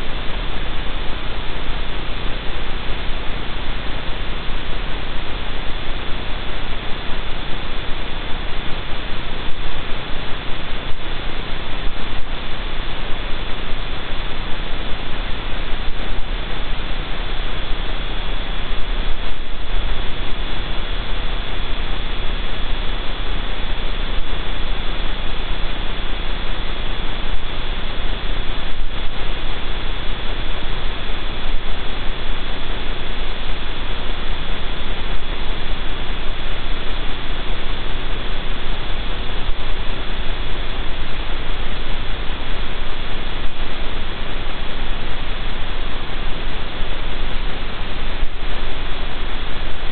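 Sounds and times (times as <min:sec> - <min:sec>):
electrical hum: 0:00.0 - 0:49.9
static hiss: 0:00.0 - 0:49.9
thin high whine: 0:00.0 - 0:49.9.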